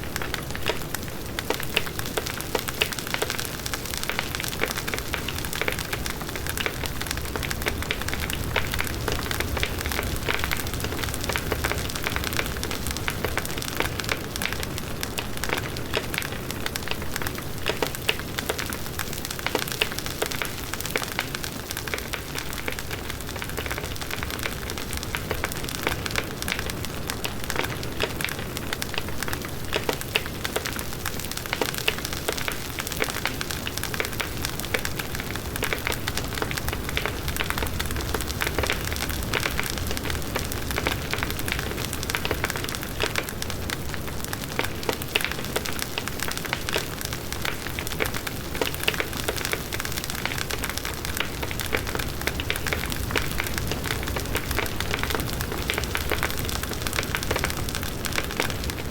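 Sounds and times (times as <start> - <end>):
burning wood crackling: 0.0 - 58.9.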